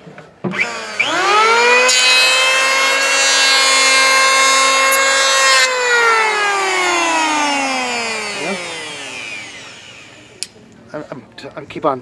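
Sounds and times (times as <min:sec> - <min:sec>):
electric planer motor whine: 0:00.5 - 0:10.5
planer cutting wood: 0:00.5 - 0:10.5.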